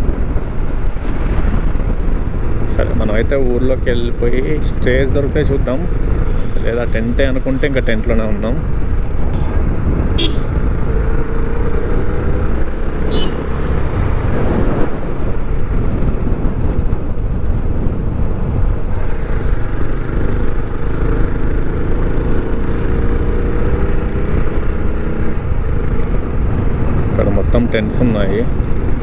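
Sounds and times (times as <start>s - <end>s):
motorcycle engine cruising: 0.0s - 29.0s
wind rushing over microphone: 0.0s - 29.0s.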